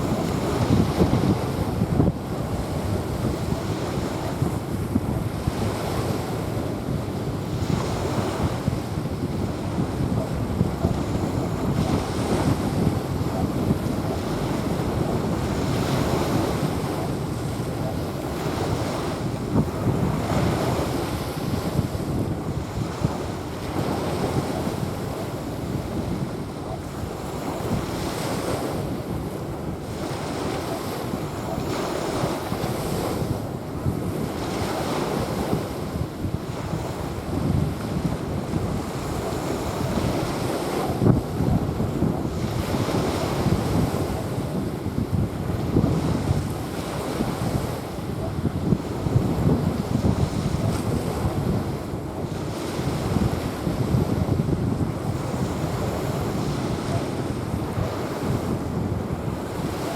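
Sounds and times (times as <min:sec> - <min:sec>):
small waves washing onto sand: 0:00.0 - 0:59.9
wind buffeting microphone: 0:00.0 - 0:59.9.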